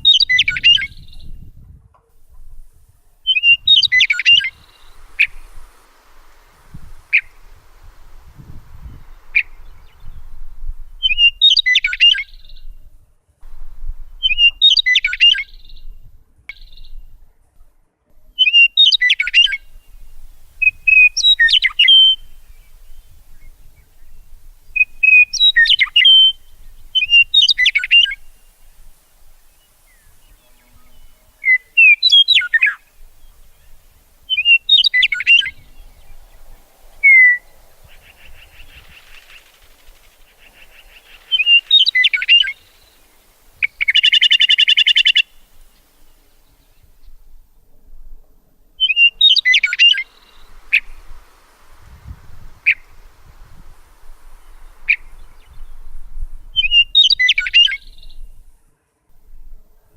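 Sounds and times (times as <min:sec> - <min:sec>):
bird chirping: 0:00.0 - 0:01.5, 0:02.3 - 0:12.8, 0:14.2 - 0:17.2, 0:18.3 - 0:47.3, 0:48.8 - 0:58.6.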